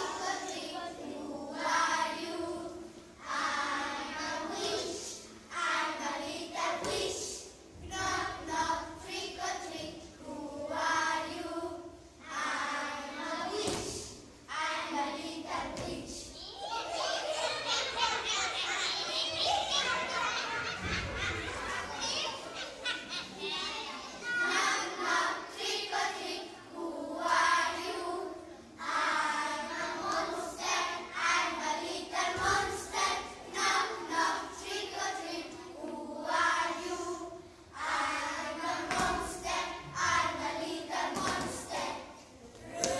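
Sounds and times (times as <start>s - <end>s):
children singing: 0.0s - 42.9s.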